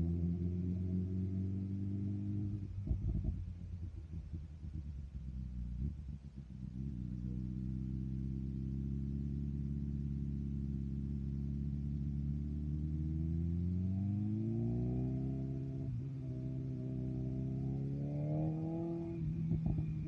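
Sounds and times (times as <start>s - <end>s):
motorcycle engine running: 0.0s - 13.2s, 14.9s - 20.0s.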